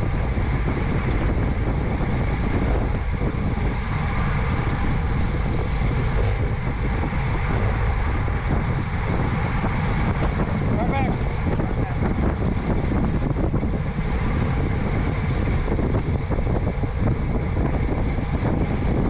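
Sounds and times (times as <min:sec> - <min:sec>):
tyres rolling on asphalt: 0:00.0 - 0:19.0
wind buffeting microphone: 0:00.0 - 0:19.0.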